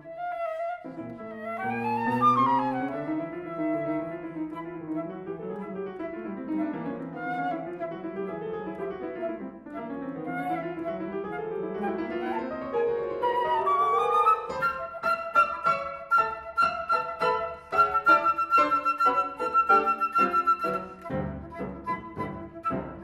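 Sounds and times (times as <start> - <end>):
flute playing: 0.0 - 23.0
piano playing: 0.0 - 23.0.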